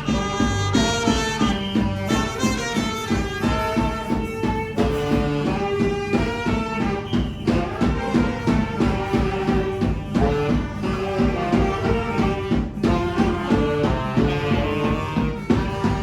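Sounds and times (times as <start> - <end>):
steady drum beat: 0.0 - 16.0
wind instruments holding melody: 0.0 - 16.0.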